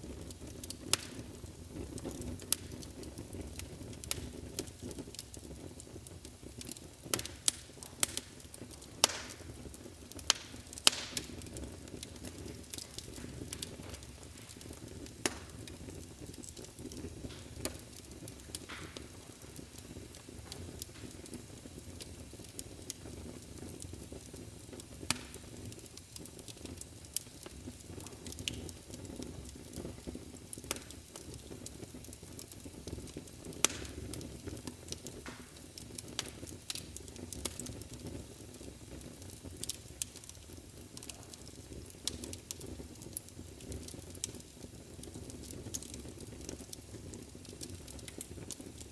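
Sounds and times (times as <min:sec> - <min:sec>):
low rustle of flames: 0:00.0 - 0:48.9
wood fire crackling and popping: 0:00.0 - 0:48.9.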